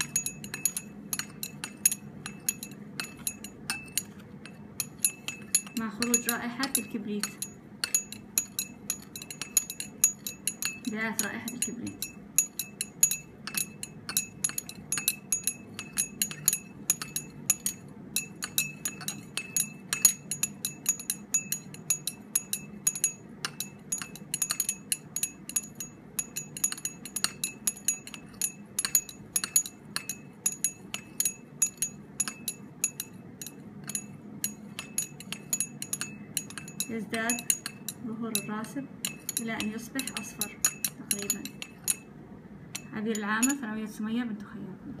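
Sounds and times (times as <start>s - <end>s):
glass rod clinking in beaker: 0.0s - 43.7s.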